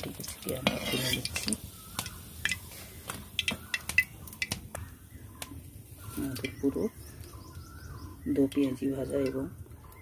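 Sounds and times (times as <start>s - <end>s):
small bird chirping: 0.2s - 10.0s.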